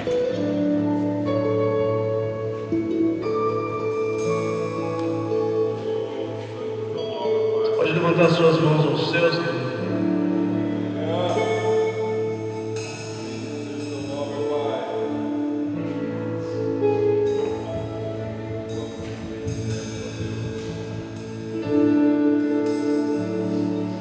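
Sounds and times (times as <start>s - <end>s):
keyboard playing slow worship music: 0.0s - 24.0s.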